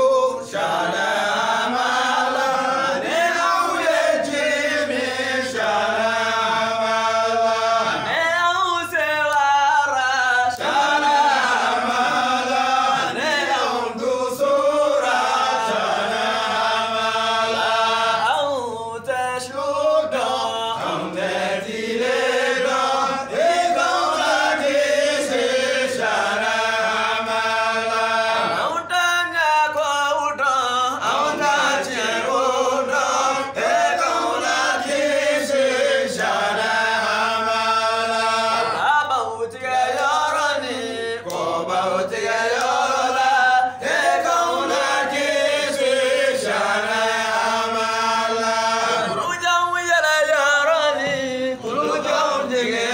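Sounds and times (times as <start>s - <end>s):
men chanting together: 0.0s - 52.9s.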